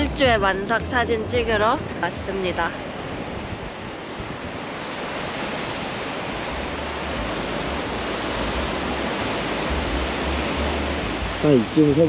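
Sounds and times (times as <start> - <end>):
wind buffeting microphone: 0.0 - 12.0
surf washing onto beach: 1.4 - 12.0.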